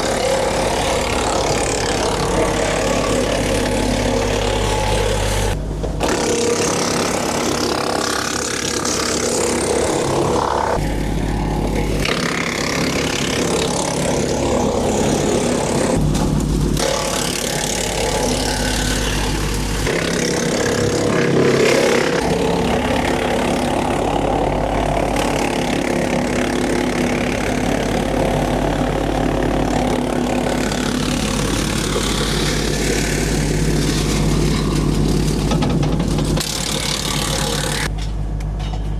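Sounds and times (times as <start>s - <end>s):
wood chipper engine running: 0.0s - 38.0s.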